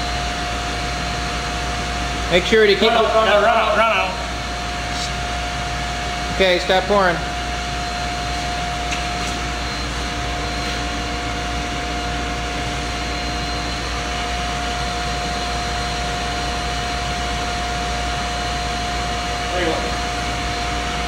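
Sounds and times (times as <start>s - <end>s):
foundry machinery drone: 0.0s - 21.0s.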